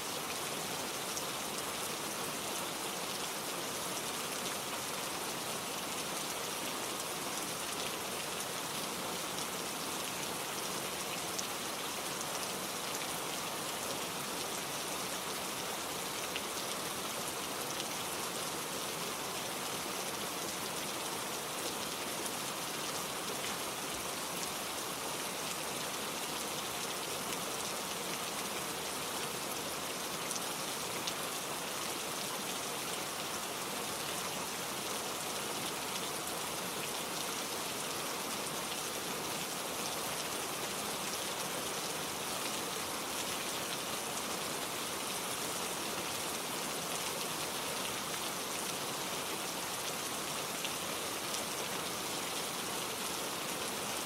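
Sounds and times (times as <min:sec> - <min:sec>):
gentle rain hissing: 0:00.0 - 0:54.0.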